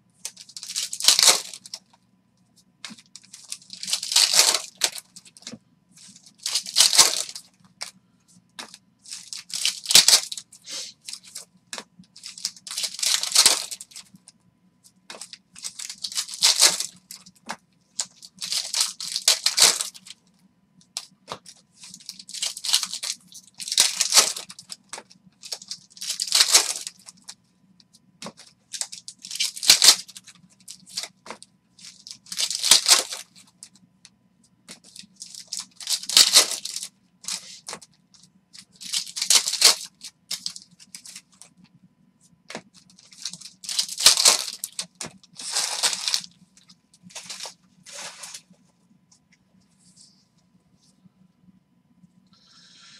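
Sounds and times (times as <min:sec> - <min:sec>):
faint steady hum: 0:00.0 - 0:52.9
foil wrapper crinkling: 0:00.2 - 0:02.0, 0:02.8 - 0:07.9, 0:08.6 - 0:14.2, 0:15.1 - 0:20.2, 0:20.9 - 0:27.4, 0:28.2 - 0:33.8, 0:34.7 - 0:41.5, 0:42.5 - 0:48.5
cards rustling and scraping: 0:00.2 - 0:20.2, 0:20.8 - 0:33.8, 0:34.5 - 0:50.9.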